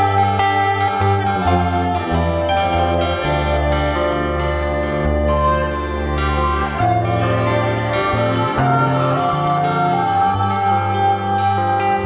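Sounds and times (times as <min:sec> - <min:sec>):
plucked string notes: 0:00.0 - 0:12.0
sustained low tones: 0:00.0 - 0:12.0.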